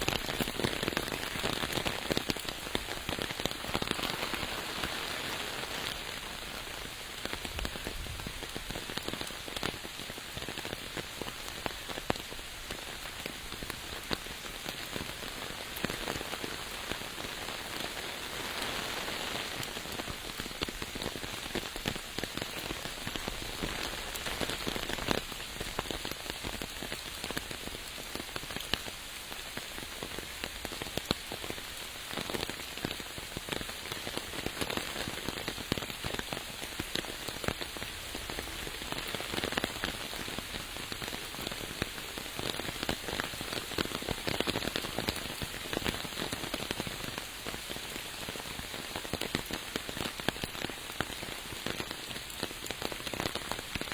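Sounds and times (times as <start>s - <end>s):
steady rain with ticking drops: 0.0s - 53.9s.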